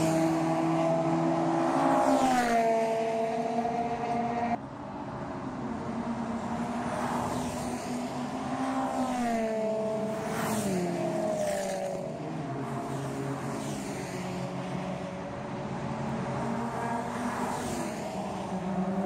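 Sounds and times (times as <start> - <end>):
race car engines at high revs: 0.0 - 4.6, 5.8 - 19.0
cars passing by: 0.0 - 19.0.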